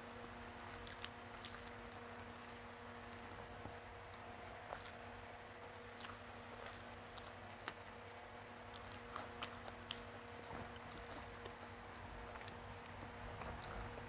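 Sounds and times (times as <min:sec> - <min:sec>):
chewing food: 0:00.0 - 0:14.0
faint steady hum: 0:00.0 - 0:14.0
rice squishing on a plate: 0:00.0 - 0:14.0.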